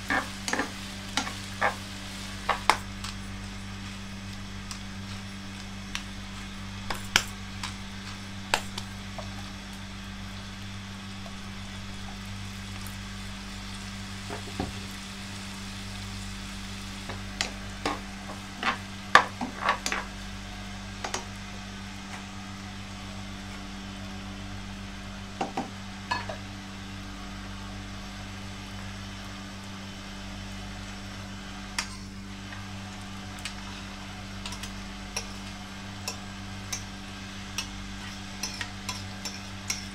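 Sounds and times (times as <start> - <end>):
pork frying in a pan: 0.0 - 39.9
steady low hum: 0.0 - 39.9.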